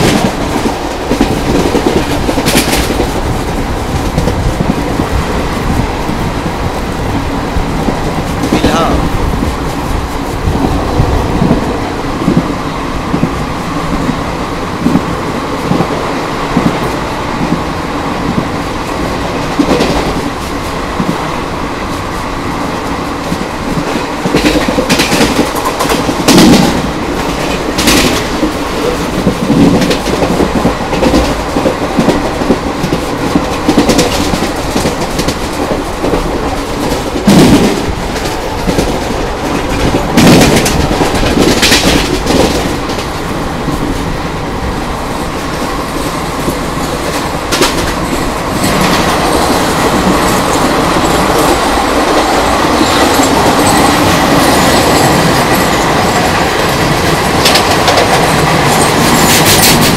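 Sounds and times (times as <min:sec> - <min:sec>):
train wheels clacking on rails: 0:00.0 - 0:59.9.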